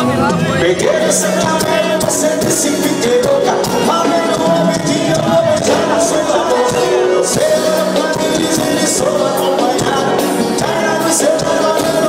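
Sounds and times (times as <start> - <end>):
band music: 0.0 - 12.0
held melody line: 0.0 - 12.0
steady drum beat: 0.0 - 12.0.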